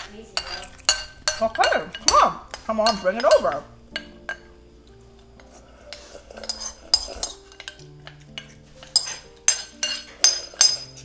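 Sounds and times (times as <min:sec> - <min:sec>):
chopsticks clinking on ceramic bowl: 0:00.4 - 0:04.5, 0:05.4 - 0:11.0.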